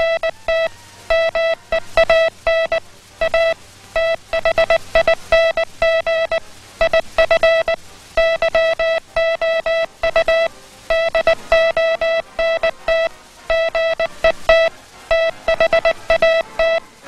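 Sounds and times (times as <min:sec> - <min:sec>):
buzzy morse code beeps: 0:00.0 - 0:17.0.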